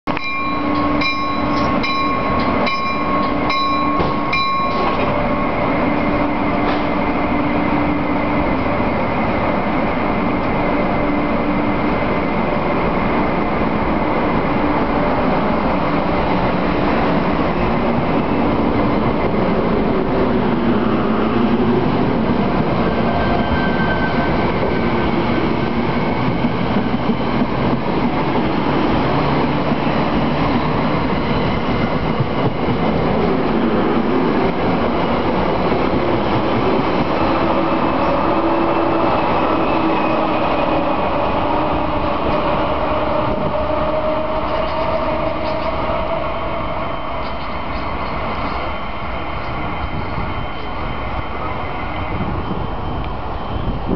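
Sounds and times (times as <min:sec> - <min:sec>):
train wheels rumbling on rails: 0:00.1 - 0:53.9.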